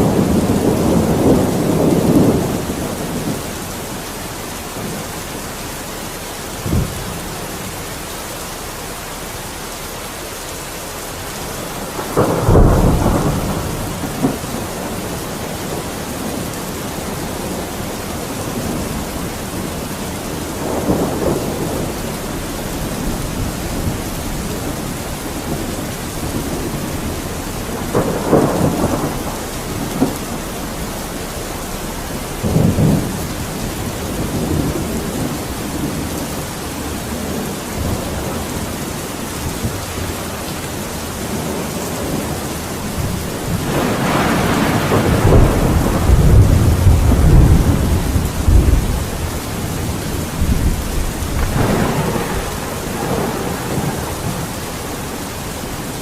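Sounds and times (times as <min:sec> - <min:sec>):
thunder rumbling: 0:00.0 - 0:09.6, 0:10.5 - 0:56.0
heavy rain: 0:00.0 - 0:56.0.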